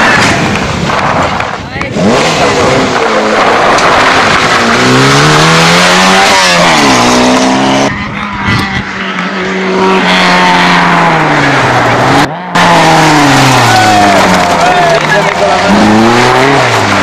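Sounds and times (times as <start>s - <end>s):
rally car engines revving: 0.0s - 17.0s.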